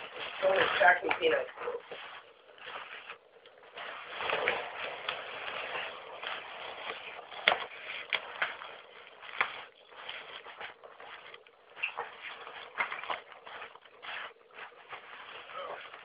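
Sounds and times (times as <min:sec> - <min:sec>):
packing peanuts rustling and clattering: 0:00.0 - 0:16.0.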